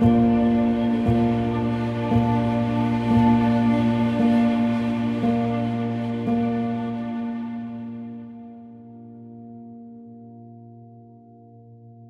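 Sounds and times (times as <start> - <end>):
sustained music chord: 0.0 - 10.1.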